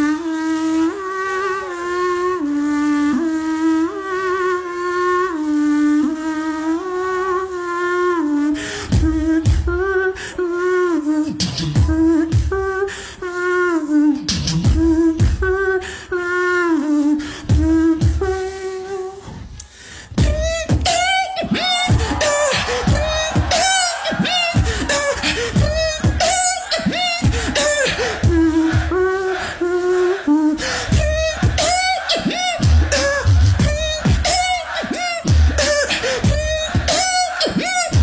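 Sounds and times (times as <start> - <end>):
beatboxing into a microphone: 0.0 - 38.0
hummed melody: 0.0 - 38.0.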